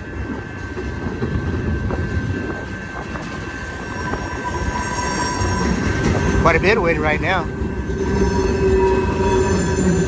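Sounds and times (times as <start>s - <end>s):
freight train cars rumbling past: 0.0s - 10.0s
wind buffeting microphone: 0.0s - 10.0s
high wheel squeal: 1.9s - 10.0s.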